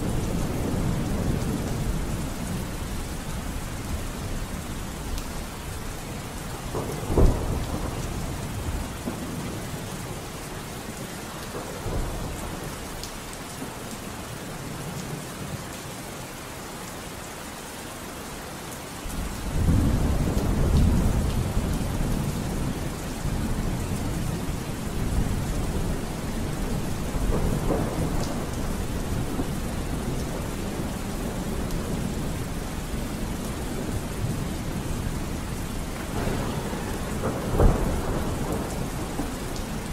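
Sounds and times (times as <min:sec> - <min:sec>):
thunder clap and rumble: 0:00.0 - 0:10.3, 0:11.4 - 0:13.1, 0:19.1 - 0:39.9
steady rain falling: 0:00.0 - 0:39.9.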